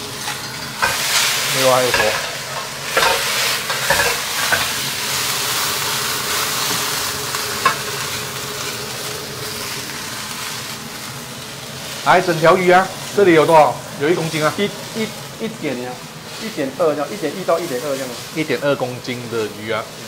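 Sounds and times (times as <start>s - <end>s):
beans sizzling in hot oil: 0.0s - 20.0s.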